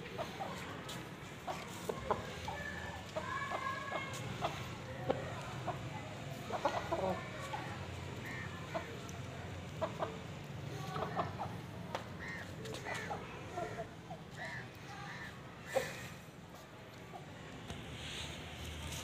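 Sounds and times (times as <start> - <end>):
chickens clucking: 0.0 - 16.3.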